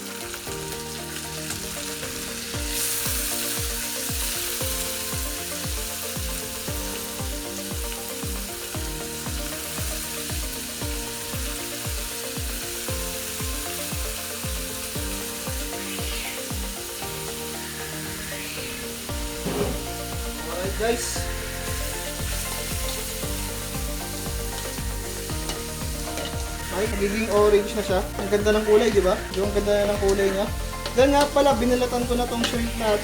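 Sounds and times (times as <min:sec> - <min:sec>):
background music with beat: 0:00.0 - 0:33.0
shrimp sizzling in a pan: 0:00.0 - 0:33.0.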